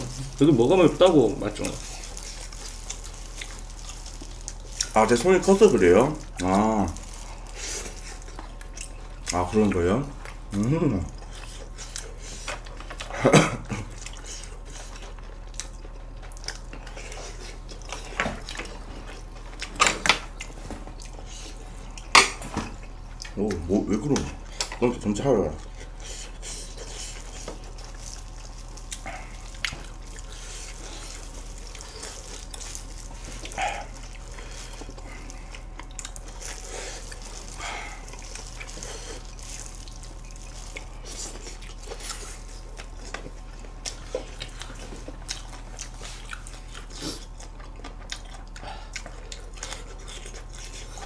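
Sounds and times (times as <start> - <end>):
chewing and biting food: 0.0 - 51.0
low electrical hum: 0.0 - 51.0.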